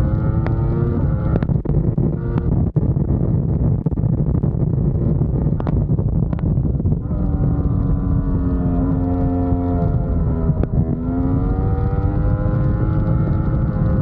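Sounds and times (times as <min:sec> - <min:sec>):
motorcycle engine revving: 0:00.0 - 0:03.1, 0:04.7 - 0:14.0
wind rush on microphone: 0:00.0 - 0:14.0.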